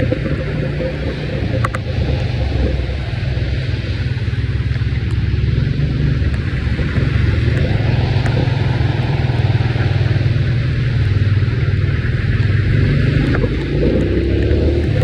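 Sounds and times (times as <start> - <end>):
low rumble: 0.0 - 15.0
heavy rain falling: 0.4 - 13.8.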